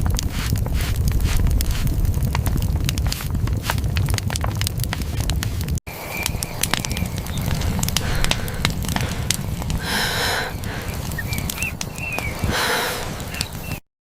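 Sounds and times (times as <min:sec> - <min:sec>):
low rumble: 0:00.0 - 0:13.3
fire crackling pops: 0:00.0 - 0:13.8.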